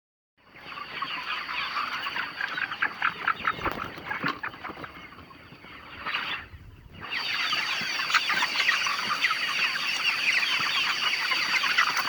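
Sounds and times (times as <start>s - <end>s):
chickens clucking: 0.5s - 12.0s.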